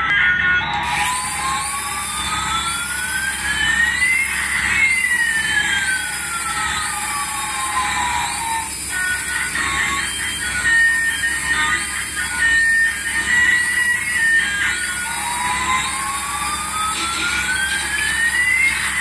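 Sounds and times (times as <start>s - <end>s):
electronic siren-like sweeps: 0.0s - 19.0s
steady high hiss: 0.9s - 19.0s.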